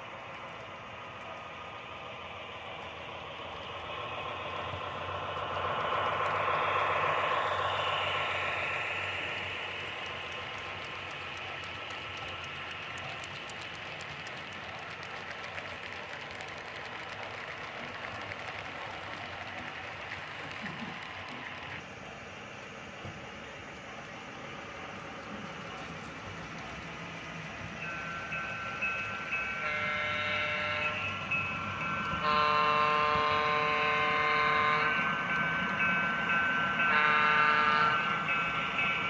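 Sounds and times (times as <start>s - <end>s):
wheels clicking on rails: 0.0s - 39.0s
model train motor whine: 3.6s - 17.6s, 19.5s - 39.0s.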